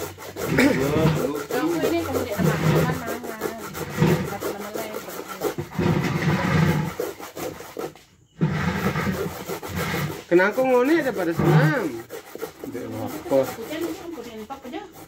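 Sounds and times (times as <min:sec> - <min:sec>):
coconut grating scrapes: 0:00.0 - 0:15.0.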